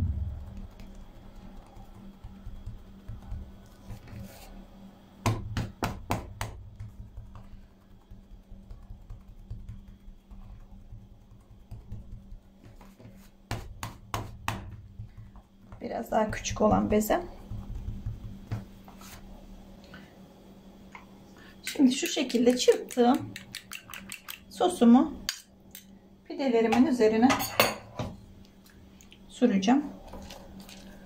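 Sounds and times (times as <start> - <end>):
hands kneading dough: 0.0 - 20.0, 21.6 - 25.3, 28.4 - 31.0.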